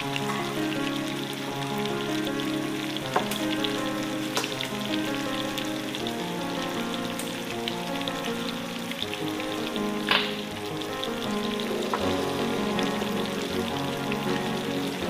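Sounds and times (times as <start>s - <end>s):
background music: 0.0s - 15.0s
chicken frying in hot oil: 0.0s - 15.0s
oil popping: 0.0s - 15.0s.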